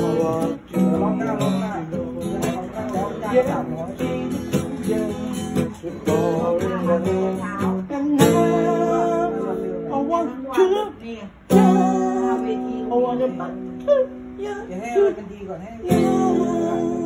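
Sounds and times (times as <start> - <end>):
person singing: 0.0 - 14.7, 15.9 - 17.0
acoustic guitar strumming: 0.0 - 17.0.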